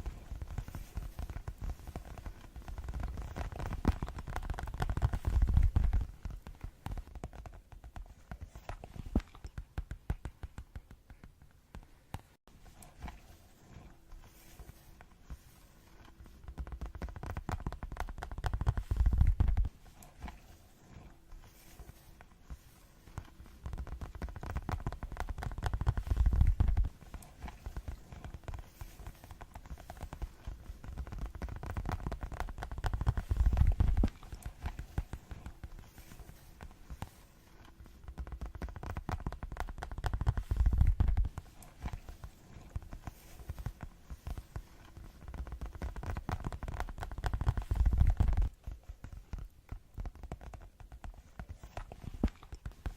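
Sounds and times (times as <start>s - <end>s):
fast finger tapping: 0.0s - 12.4s, 16.3s - 20.6s, 21.5s - 52.9s.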